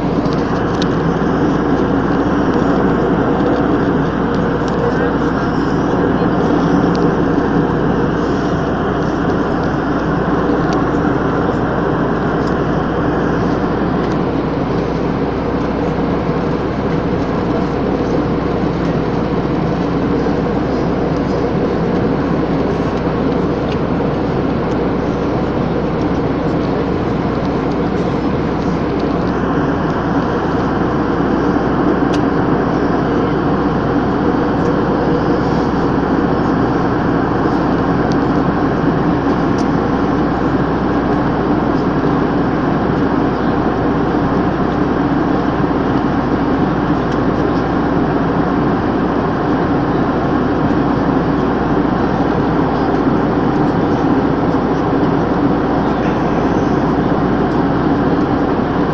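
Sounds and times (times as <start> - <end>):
airliner cabin engine drone: 0.0 - 58.9
low hum: 0.0 - 58.9.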